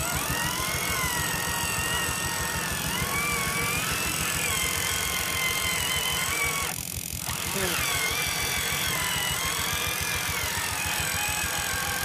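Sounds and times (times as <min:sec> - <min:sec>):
electric motor and gears whining: 0:00.0 - 0:12.0
low rumble of drivetrain and tyres: 0:00.0 - 0:12.0.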